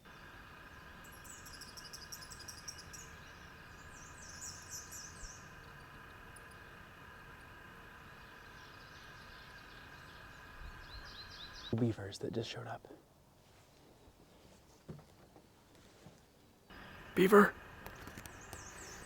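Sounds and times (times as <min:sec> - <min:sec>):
faint steady drone: 0:00.0 - 0:13.8, 0:16.6 - 0:19.0.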